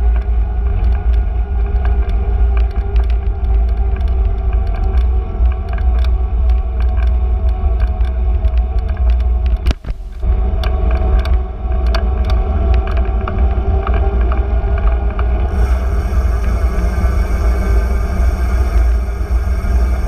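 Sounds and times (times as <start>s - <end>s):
bicycle riding rumble: 0.0s - 20.0s
bicycle ticks and rattles: 0.0s - 20.0s.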